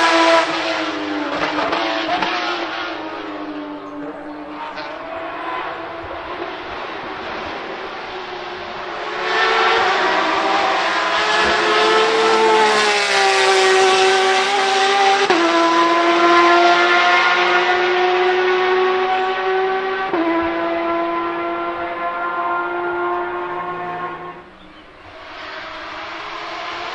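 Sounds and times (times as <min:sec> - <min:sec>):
race car engine at speed: 0:00.0 - 0:26.9.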